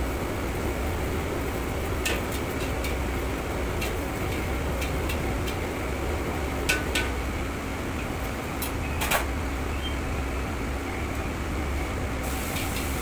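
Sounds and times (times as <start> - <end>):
low rumble of wok burner and fan: 0.0 - 13.0.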